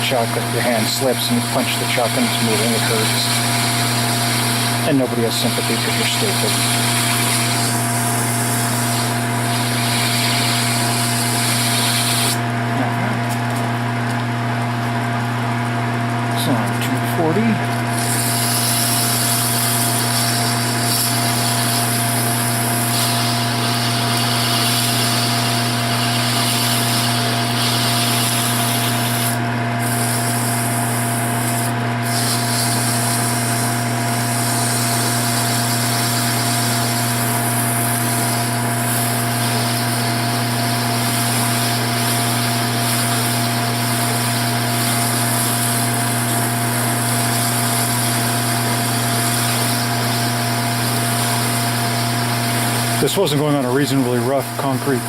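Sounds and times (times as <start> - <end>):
sandpaper hissing on spinning wood: 0.0 - 12.4, 18.0 - 55.0
lathe motor hum: 0.0 - 55.0.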